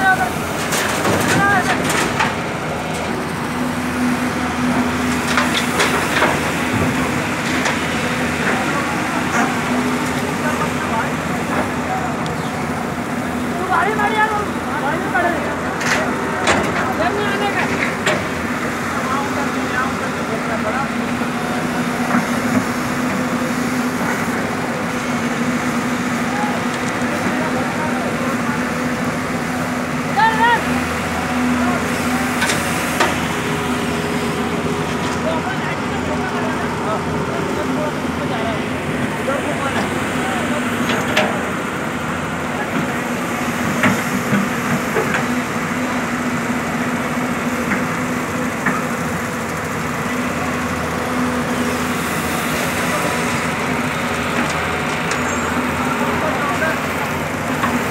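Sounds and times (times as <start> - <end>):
excavator engines humming: 0.0 - 57.9.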